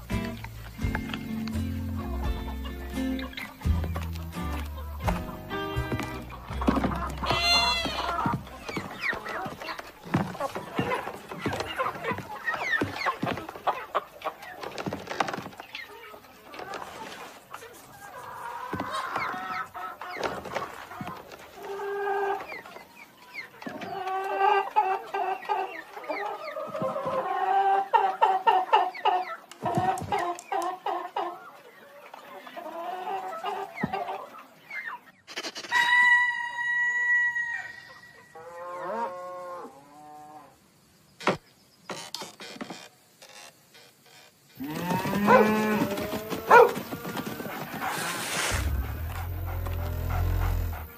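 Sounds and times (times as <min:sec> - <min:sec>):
hens clucking and cackling: 0:00.0 - 0:40.8, 0:44.6 - 0:50.9.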